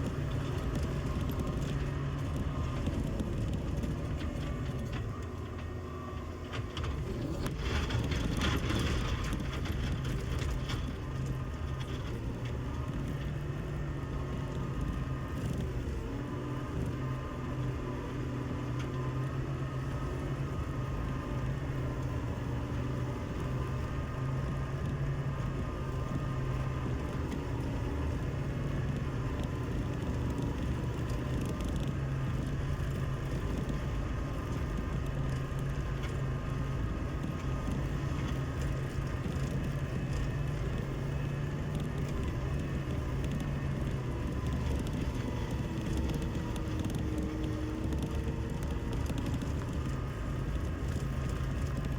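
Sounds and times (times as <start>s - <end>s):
loader engine droning: 0.0s - 51.9s.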